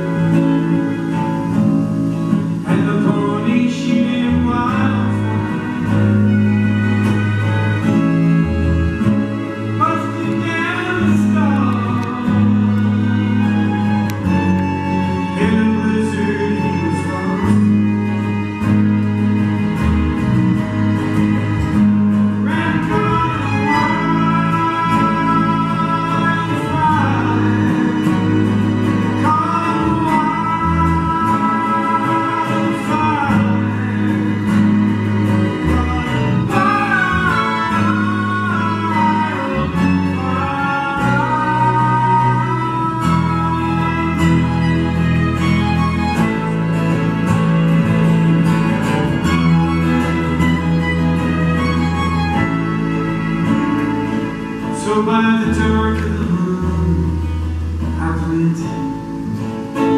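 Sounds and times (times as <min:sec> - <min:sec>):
acoustic guitar: 0:00.0 - 0:59.9
electric bass: 0:00.0 - 0:59.9
violins and cello sliding notes: 0:00.0 - 0:59.9.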